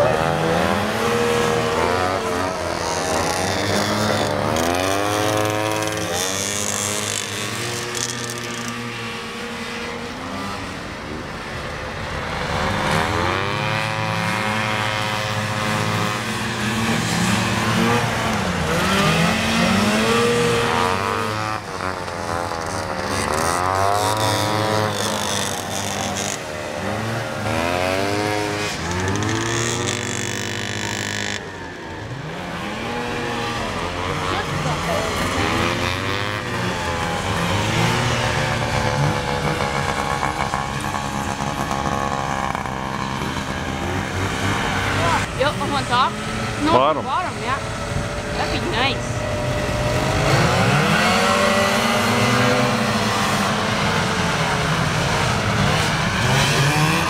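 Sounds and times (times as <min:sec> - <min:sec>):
two-stroke snowmobile engines racing: 0:00.0 - 0:57.0.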